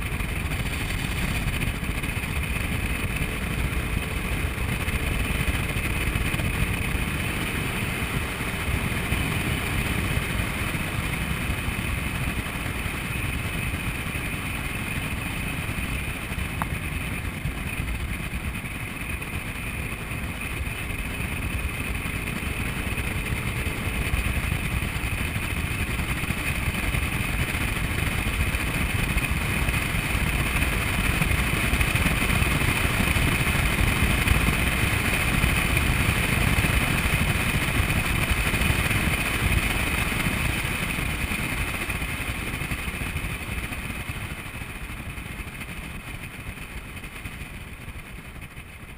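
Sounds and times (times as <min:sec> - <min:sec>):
scooter engine running: 0:00.0 - 0:48.9.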